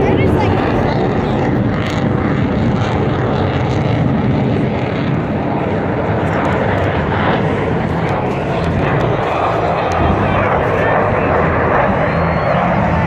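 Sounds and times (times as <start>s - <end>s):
jets flying overhead: 0.0s - 13.0s.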